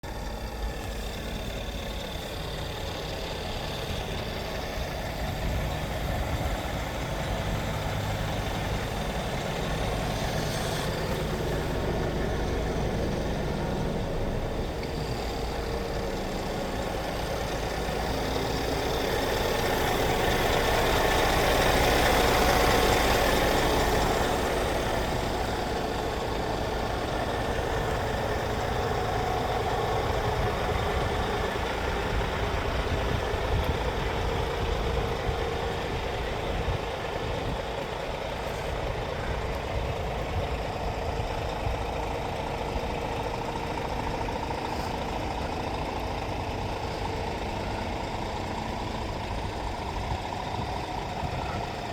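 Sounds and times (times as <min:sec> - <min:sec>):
truck diesel engine idling: 0:00.0 - 0:51.9.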